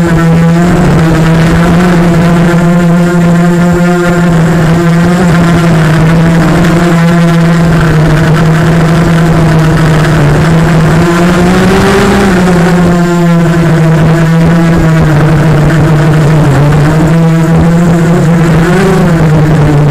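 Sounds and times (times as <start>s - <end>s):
drone motors whining: 0.0s - 19.9s.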